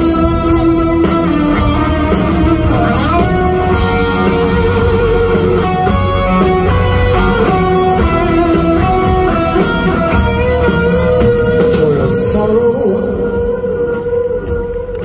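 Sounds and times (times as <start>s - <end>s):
drums and cymbals: 0.0s - 15.0s
electric guitar: 0.0s - 15.0s.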